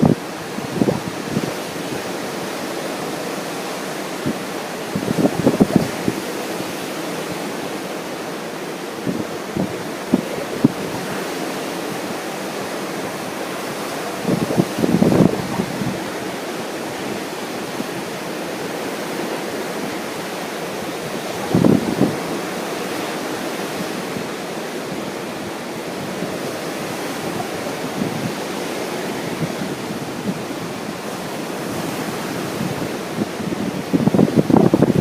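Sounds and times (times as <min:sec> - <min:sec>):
ocean surf: 0:00.0 - 0:35.0
wind: 0:00.0 - 0:35.0
wind gusting on microphone: 0:00.0 - 0:35.0.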